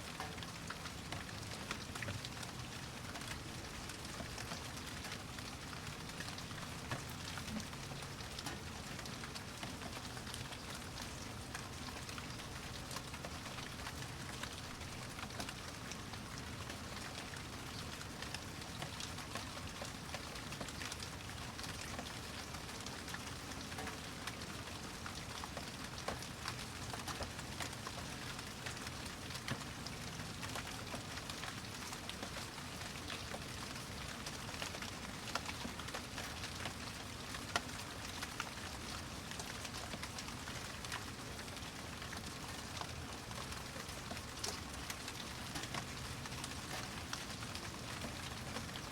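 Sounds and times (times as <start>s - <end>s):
rain pattering on a surface: 0.0s - 48.9s.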